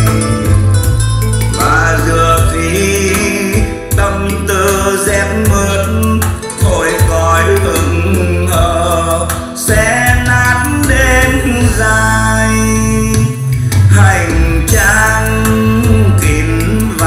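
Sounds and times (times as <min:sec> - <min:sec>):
song with singing and strong bass: 0:00.0 - 0:17.0.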